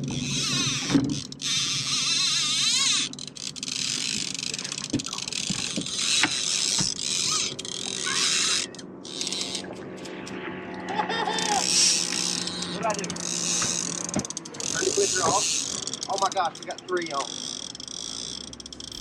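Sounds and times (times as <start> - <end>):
fishing reel clickers ratcheting: 0.0 - 10.4, 11.4 - 19.0.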